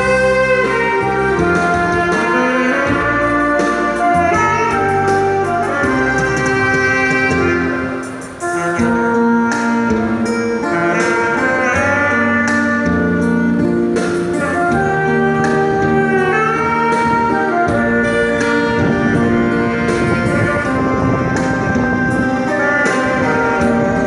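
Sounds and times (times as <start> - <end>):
backing track with steady beat: 0.0 - 24.0
wind instrument melody: 0.0 - 24.0.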